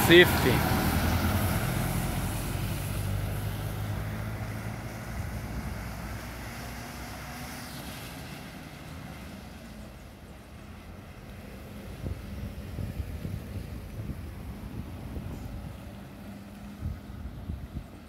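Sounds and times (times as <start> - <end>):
bus diesel engine driving off: 0.0 - 18.0.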